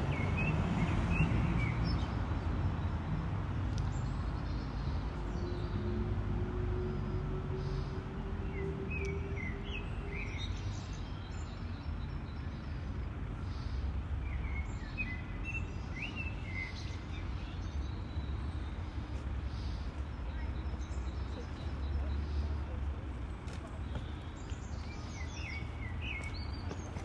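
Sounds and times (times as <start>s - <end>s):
city street rumble: 0.0s - 27.0s.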